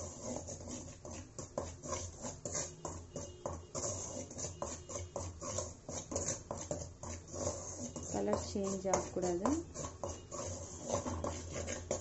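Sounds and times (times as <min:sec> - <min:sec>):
metal ladle scraping flour in pan: 0:00.0 - 0:12.0.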